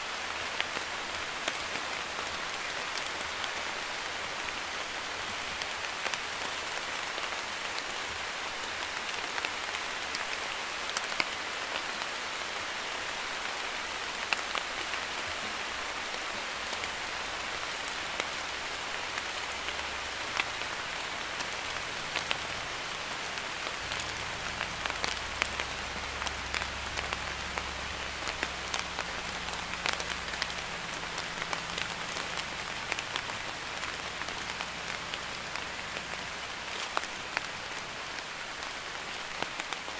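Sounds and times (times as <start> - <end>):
light rain on hard surface: 0.0 - 39.9.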